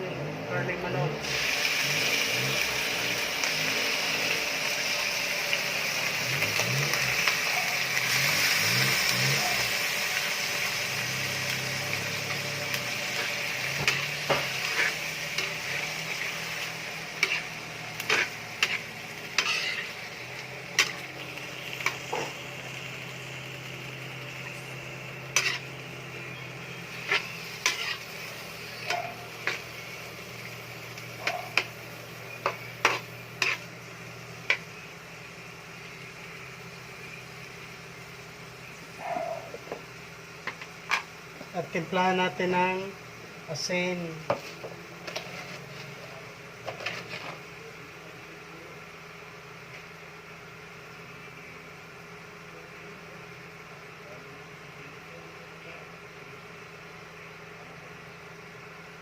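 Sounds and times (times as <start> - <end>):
food sizzling in a pan: 0.6 - 59.0.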